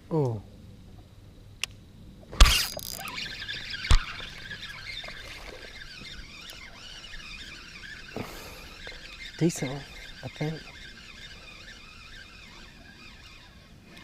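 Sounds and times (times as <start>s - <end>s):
fishing reel whirring: 2.4s - 14.0s.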